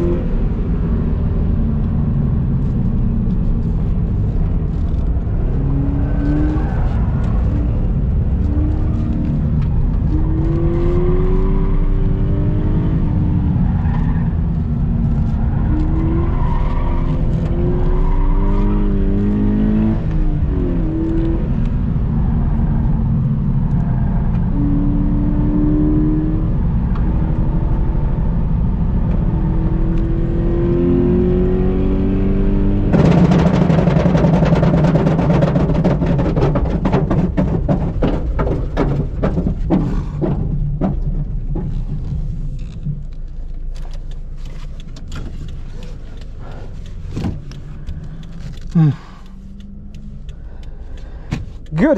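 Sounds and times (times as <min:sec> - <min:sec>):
car engine accelerating: 0:00.0 - 0:51.9
road and wind noise: 0:00.0 - 0:51.9.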